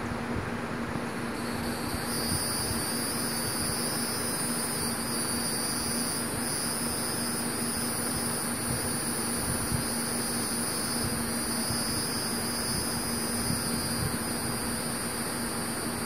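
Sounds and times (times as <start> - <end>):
insects buzzing: 0.8 - 16.0.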